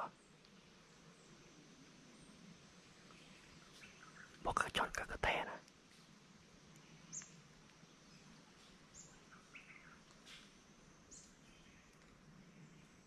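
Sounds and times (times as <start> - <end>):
faint bird chirps: 0.0 - 5.5, 6.7 - 13.0.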